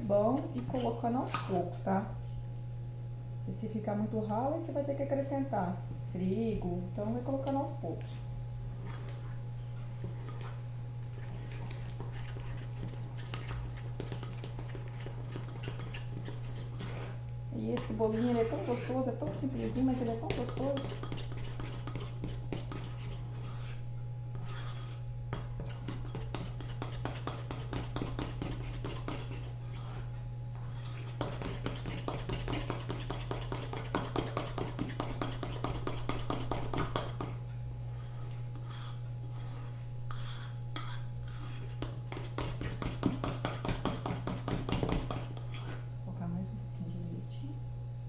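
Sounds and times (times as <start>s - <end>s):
spoon stirring batter in bowl: 0.0s - 2.7s, 6.3s - 45.9s
steady low hum: 0.0s - 48.0s.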